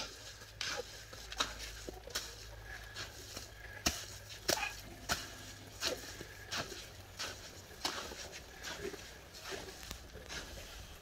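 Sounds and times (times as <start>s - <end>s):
hoe scraping wet cement: 0.0s - 11.0s.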